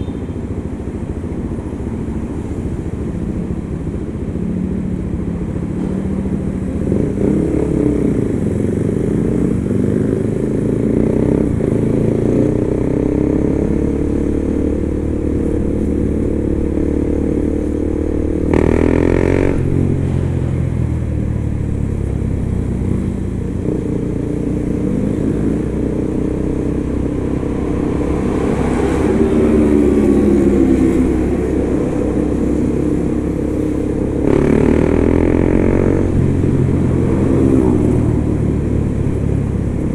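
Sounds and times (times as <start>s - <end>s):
motorcycle engine revving: 2.4s - 39.9s.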